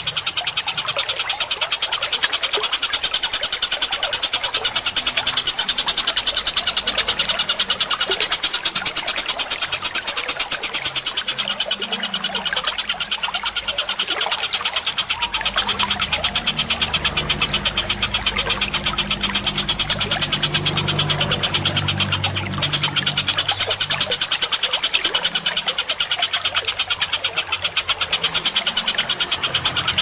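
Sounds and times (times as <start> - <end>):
sharp high bird chirps: 0.0 - 30.0
steady low hum: 0.0 - 30.0.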